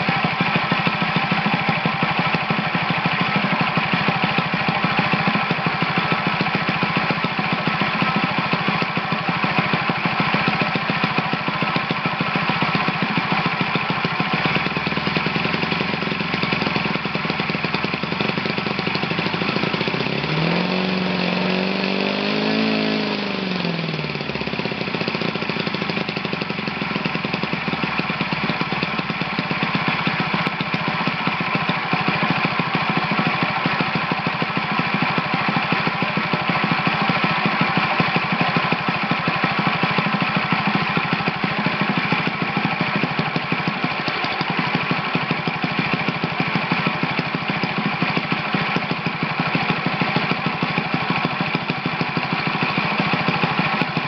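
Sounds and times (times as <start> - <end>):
model engine running: 0.0 - 54.0.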